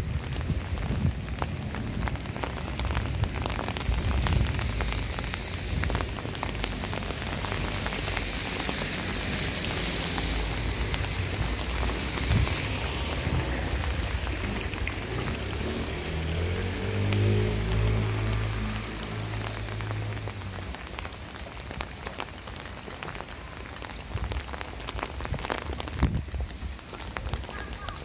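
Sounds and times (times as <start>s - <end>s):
rain on wet pavement: 0.0s - 28.0s.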